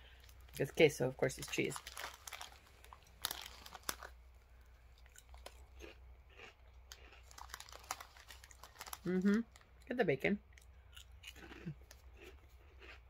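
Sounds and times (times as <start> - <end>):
person chewing crunchy snacks: 1.4 - 9.8, 10.5 - 13.0.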